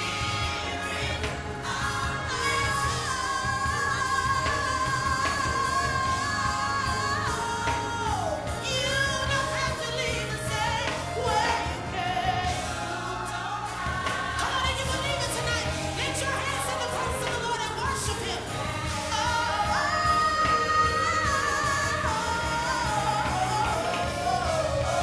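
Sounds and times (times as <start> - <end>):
voices singing gospel: 0.0 - 25.0.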